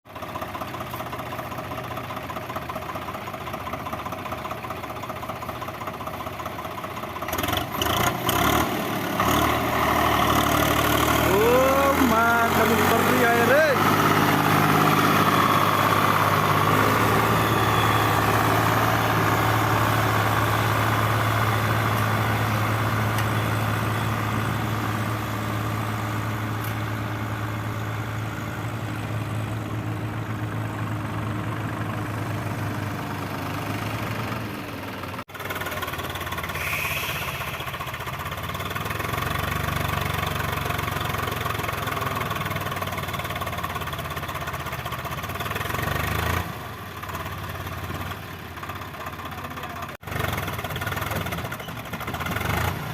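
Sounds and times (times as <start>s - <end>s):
tractor diesel engine running: 0.1s - 52.9s.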